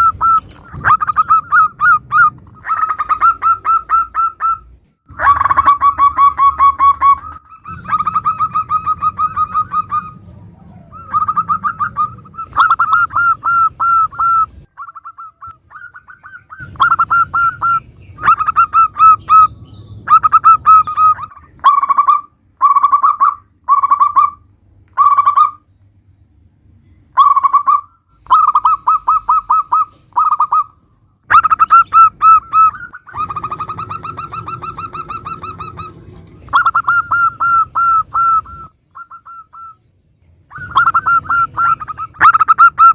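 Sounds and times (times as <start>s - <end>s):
dove cooing: 0.0s - 24.4s, 27.2s - 39.8s, 40.5s - 42.9s.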